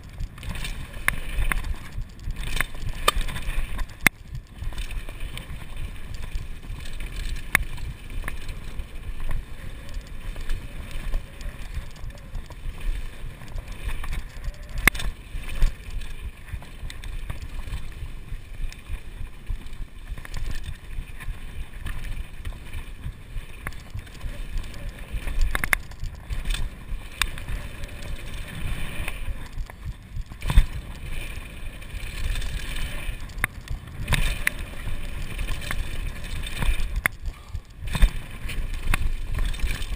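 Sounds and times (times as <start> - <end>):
bike knocking and clattering: 0.0 - 39.9
bike tyres rumbling on dirt: 0.0 - 39.9
wind on microphone: 0.0 - 39.9.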